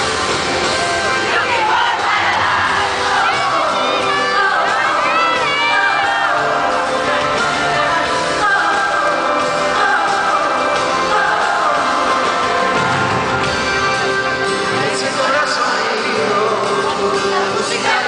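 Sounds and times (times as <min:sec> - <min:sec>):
fans shouting and whooping: 0:00.0 - 0:15.6
live band playing with singing: 0:00.0 - 0:18.0.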